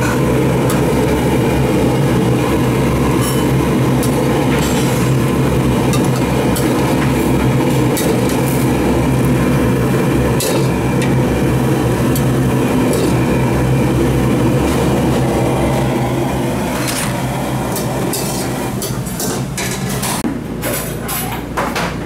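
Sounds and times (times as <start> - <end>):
gas burner roaring: 0.0 - 20.4.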